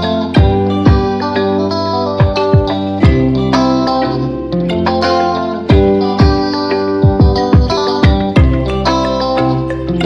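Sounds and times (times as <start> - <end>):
held music notes: 0.0 - 10.0.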